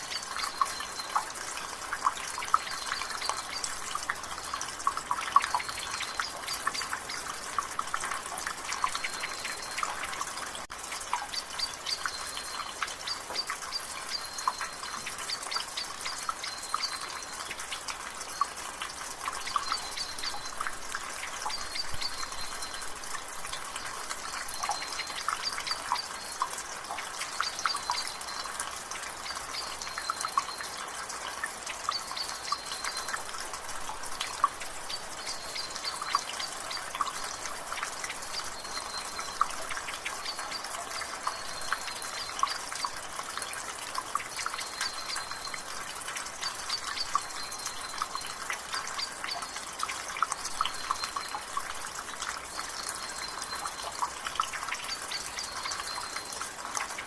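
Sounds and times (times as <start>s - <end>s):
light drizzle hiss: 0.0s - 57.0s
water dripping from gutter: 0.0s - 57.0s.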